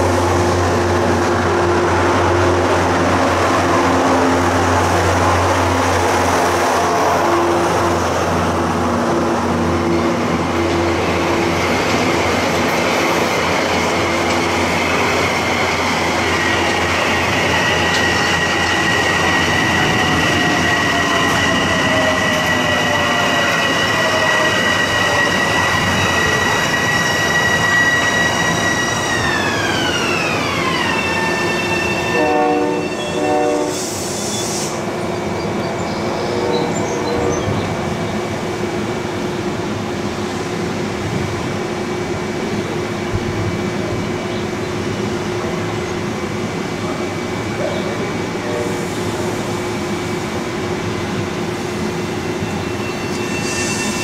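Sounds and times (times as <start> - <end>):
train wheel and rail noise: 0.0 - 54.0.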